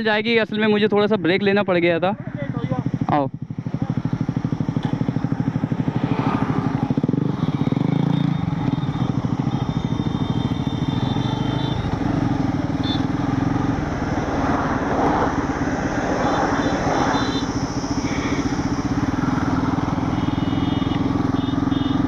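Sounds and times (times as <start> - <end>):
wind and road noise: 0.0 - 22.0
motorcycle engine accelerating: 0.7 - 22.0.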